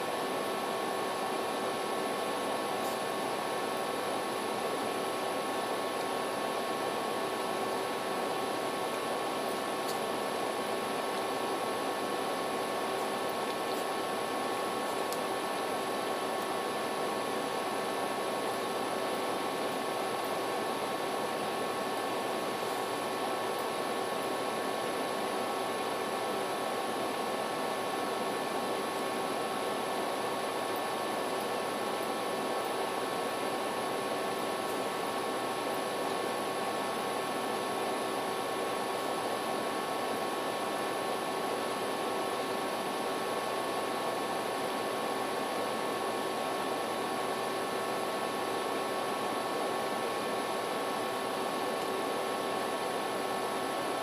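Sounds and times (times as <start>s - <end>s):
faint electrical hums: 0.0s - 54.0s.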